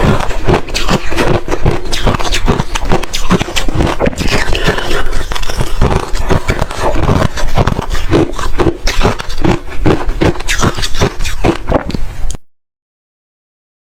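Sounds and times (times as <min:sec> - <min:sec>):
ice being chewed: 0:00.0 - 0:12.4.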